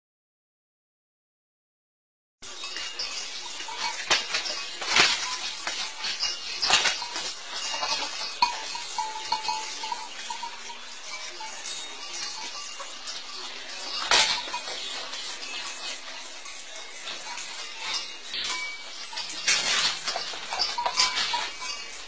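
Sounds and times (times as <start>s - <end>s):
knocks and clattering: 2.5s - 16.4s, 17.0s - 22.0s.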